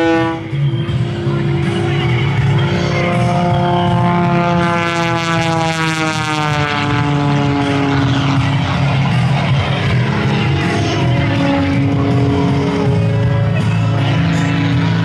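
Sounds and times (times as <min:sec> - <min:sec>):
propeller plane engine: 0:00.0 - 0:15.0.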